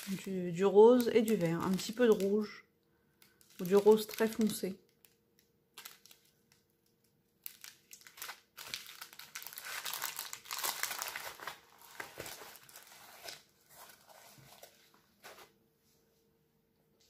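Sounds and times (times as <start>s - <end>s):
plastic and paper crinkling: 0.0s - 2.6s, 3.2s - 15.6s.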